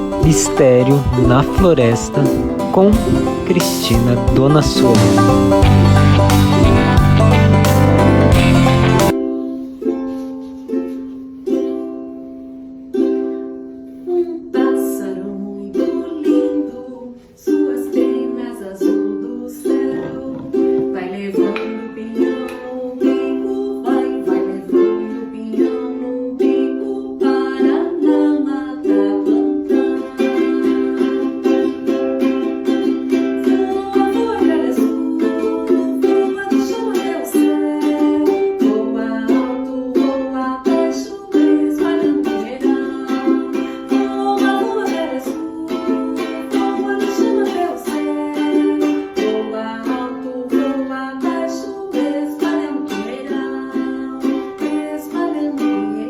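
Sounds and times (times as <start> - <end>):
plucked string melody: 0.0 - 56.0.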